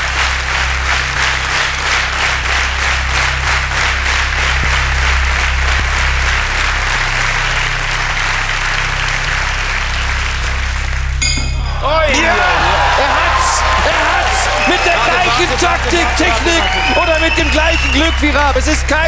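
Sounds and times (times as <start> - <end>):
audience clapping in rhythm: 0.0 - 19.0.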